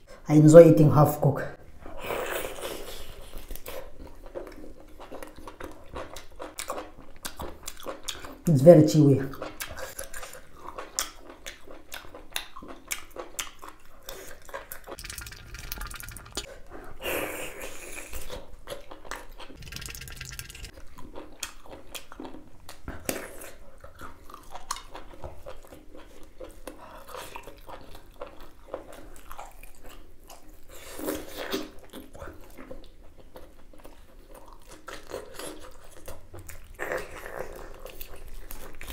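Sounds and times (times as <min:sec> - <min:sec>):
wet chewing clicks and smacks: 0:03.1 - 0:08.5, 0:09.3 - 0:16.6, 0:18.1 - 0:38.9.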